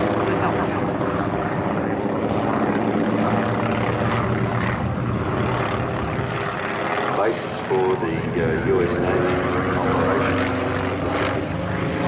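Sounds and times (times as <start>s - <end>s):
propeller planes droning overhead: 0.0s - 12.0s.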